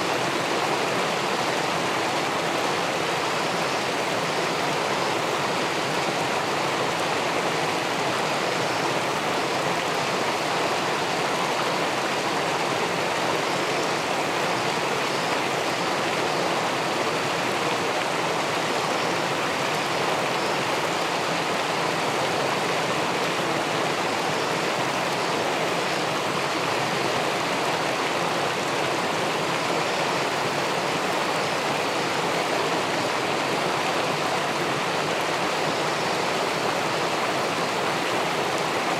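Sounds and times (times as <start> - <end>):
river water rushing over a weir: 0.0 - 38.9.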